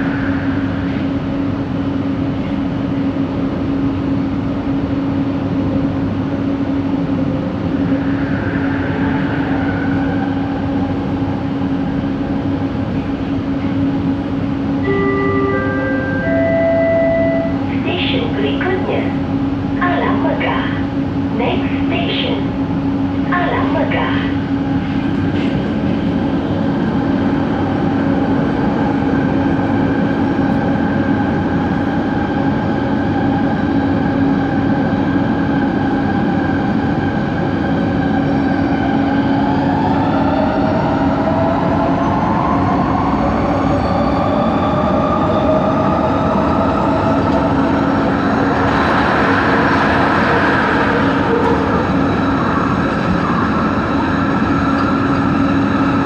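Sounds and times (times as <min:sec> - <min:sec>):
steady train hum: 0:00.0 - 0:56.0.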